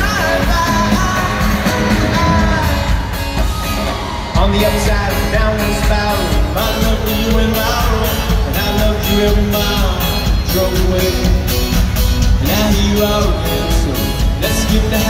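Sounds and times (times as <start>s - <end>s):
bass guitar: 0.0s - 15.0s
drums: 0.0s - 15.0s
electric guitar: 0.0s - 15.0s
man singing lead vocal: 0.0s - 15.0s.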